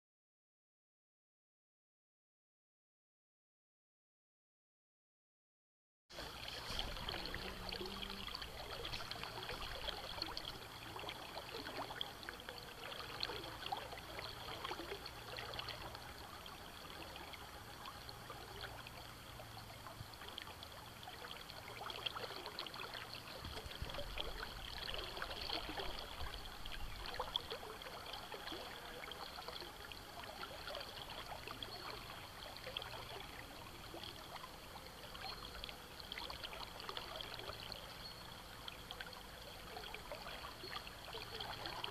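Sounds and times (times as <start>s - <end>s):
river water over stones: 6.1s - 41.9s.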